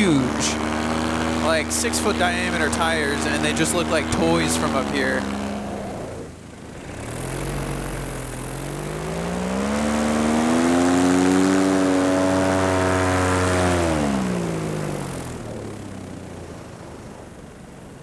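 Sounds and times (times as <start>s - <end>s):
paramotor engine and propeller: 0.0s - 18.0s.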